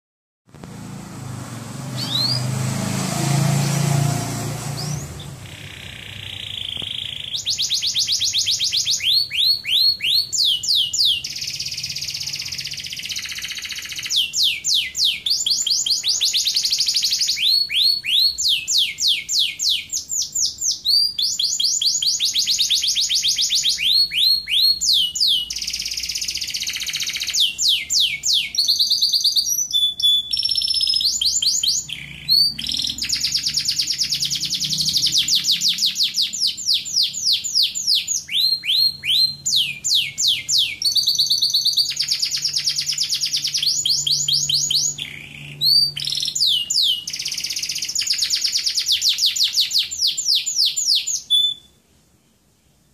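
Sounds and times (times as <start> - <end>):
canary singing rapid trills: 2.0 - 51.8.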